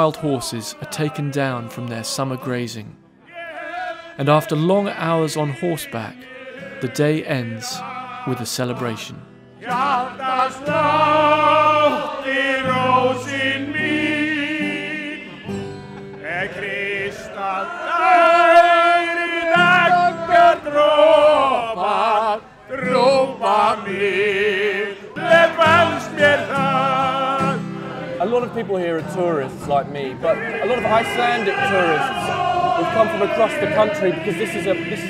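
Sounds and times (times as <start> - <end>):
men singing together: 0.0 - 2.6, 3.2 - 28.6, 30.2 - 35.0
strummed acoustic guitar: 5.9 - 35.0.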